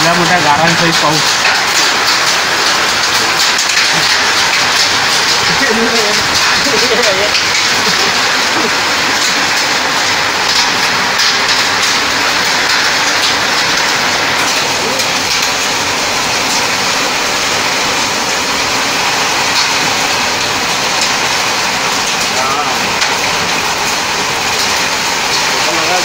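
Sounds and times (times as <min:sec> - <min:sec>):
hailstones ticking: 0:00.0 - 0:26.0
heavy rain hissing: 0:00.0 - 0:26.0.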